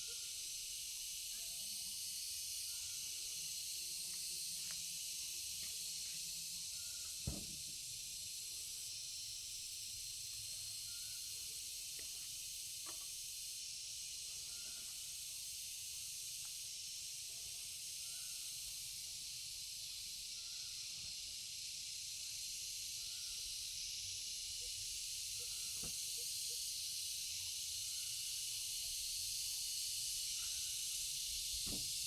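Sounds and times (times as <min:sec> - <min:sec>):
high-pitched hiss: 0:00.0 - 0:32.0.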